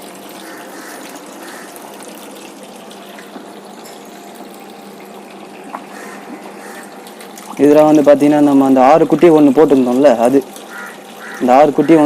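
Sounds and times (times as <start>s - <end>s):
water running into tank: 0.0s - 12.0s.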